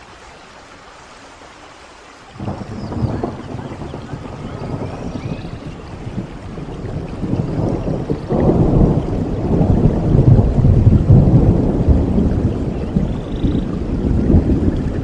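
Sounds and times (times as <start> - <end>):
steady rain: 0.0 - 15.0
low rumble of thunder: 2.4 - 15.0.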